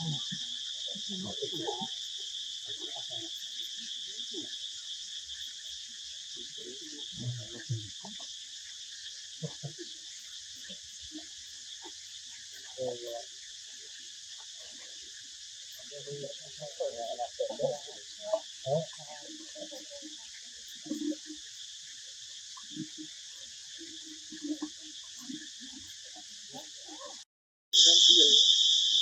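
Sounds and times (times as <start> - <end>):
crickets chirping: 0.0 - 27.2, 27.8 - 29.0.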